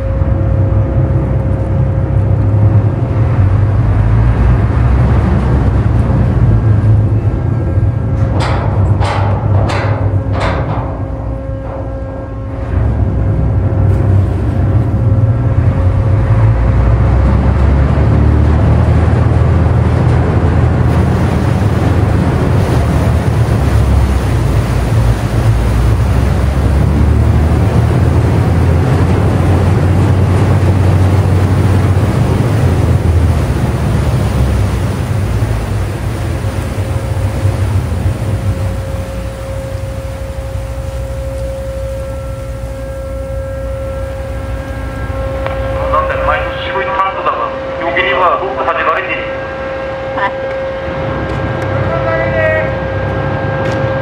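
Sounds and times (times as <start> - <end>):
ship engine and propeller rumble: 0.0 - 54.0.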